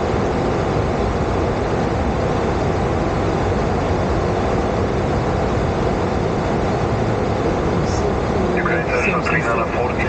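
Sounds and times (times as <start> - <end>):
air rushing over cockpit: 0.0 - 10.0
jet engines droning: 0.0 - 10.0.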